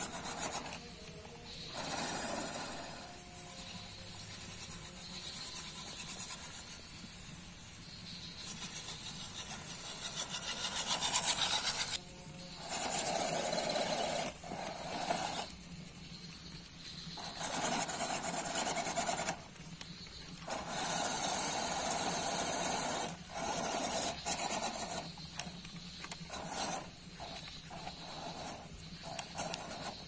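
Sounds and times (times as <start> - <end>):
small electric motor whining: 0.0 - 7.0, 8.3 - 15.9, 17.0 - 30.0.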